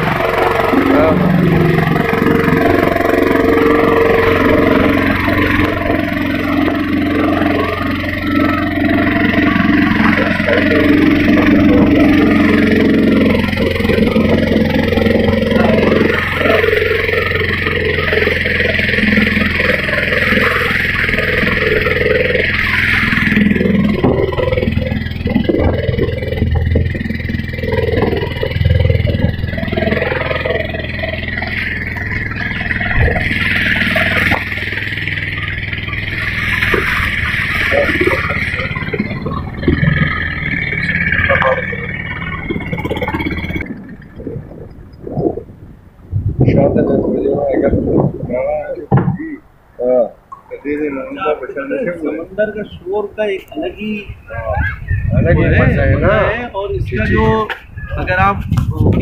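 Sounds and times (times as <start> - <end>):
motorboat engine running: 0.0 - 59.0
water rushing along hull: 0.0 - 59.0.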